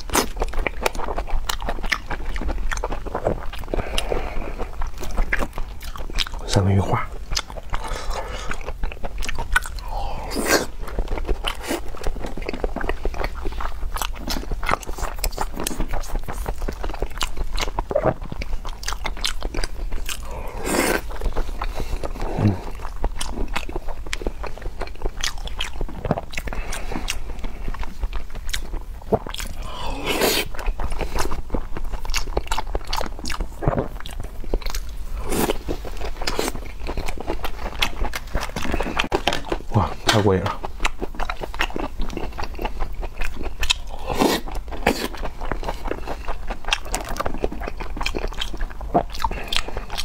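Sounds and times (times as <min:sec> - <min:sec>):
close chewing and biting: 0:00.0 - 0:50.0.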